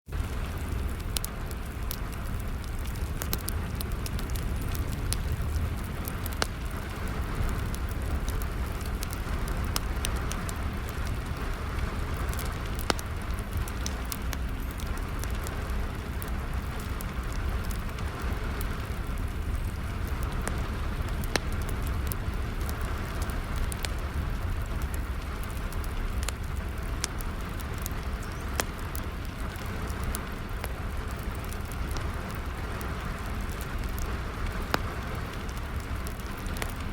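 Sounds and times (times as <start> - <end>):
low steady rumble: 0.1 - 36.9
steady rain: 0.1 - 36.9
wood fire crackling and popping: 0.1 - 36.9.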